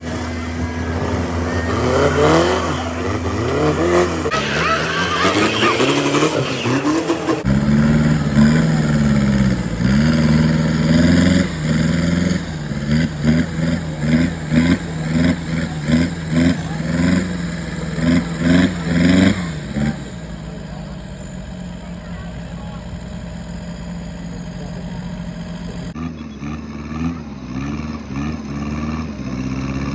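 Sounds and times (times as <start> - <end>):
engine idling: 0.0 - 29.9
engine revving: 0.0 - 29.9.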